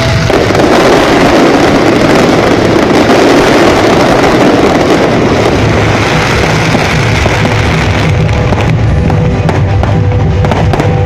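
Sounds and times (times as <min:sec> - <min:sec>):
fireworks barrage roaring: 0:00.0 - 0:11.0.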